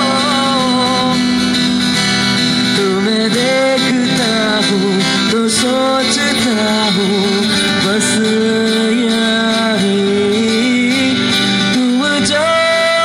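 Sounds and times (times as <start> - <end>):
acoustic guitar: 0.0 - 13.0
man singing into a microphone: 0.0 - 13.0.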